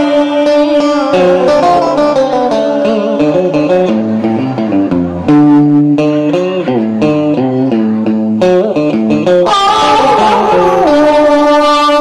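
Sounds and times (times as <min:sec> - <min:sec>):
electric guitar plucked melody: 0:00.0 - 0:12.0.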